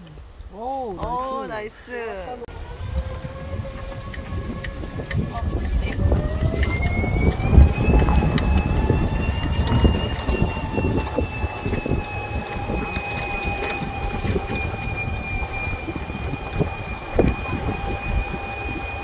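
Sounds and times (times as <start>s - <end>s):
wind buffeting microphone: 2.4s - 19.0s
electric motor whine: 2.5s - 19.0s.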